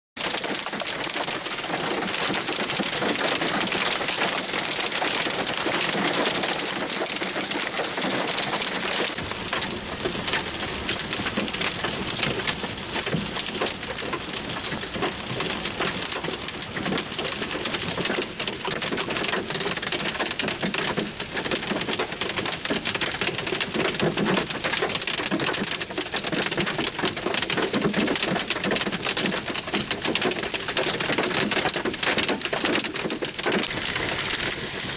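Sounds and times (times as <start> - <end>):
hail clattering on a vehicle roof: 0.2 - 34.9.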